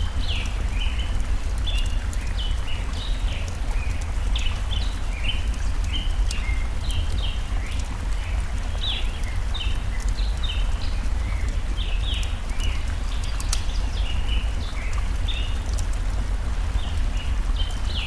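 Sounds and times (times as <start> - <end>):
campfire crackling: 0.0 - 18.0
forest stream rushing: 0.0 - 18.0
birds chirping: 0.2 - 15.8.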